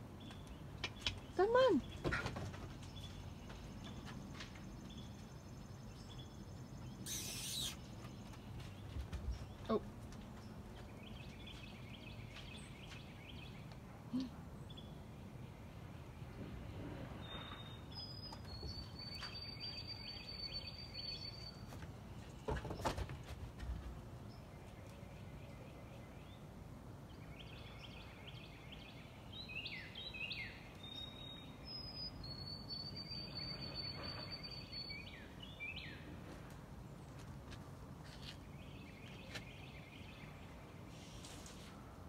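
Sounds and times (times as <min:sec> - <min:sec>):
songbirds singing: 0:00.0 - 0:16.4, 0:17.1 - 0:23.3, 0:23.9 - 0:36.2, 0:36.9 - 0:41.3.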